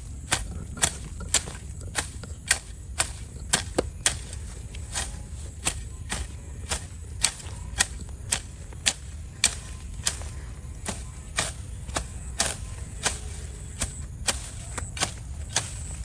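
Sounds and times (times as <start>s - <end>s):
hand tool chopping: 0.0s - 16.0s
steady low rumble: 0.0s - 16.0s.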